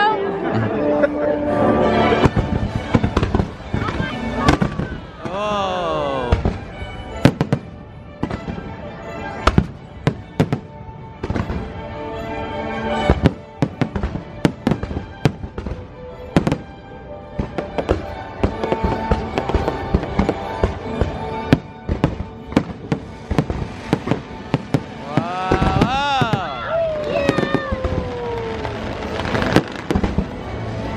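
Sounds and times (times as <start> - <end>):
fireworks banging: 2.1 - 11.8, 13.0 - 16.7, 17.4 - 30.9.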